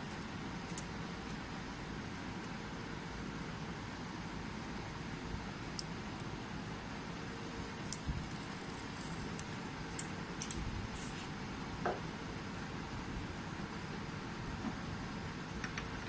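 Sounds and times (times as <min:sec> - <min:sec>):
background hiss and hum: 0:00.0 - 0:16.0.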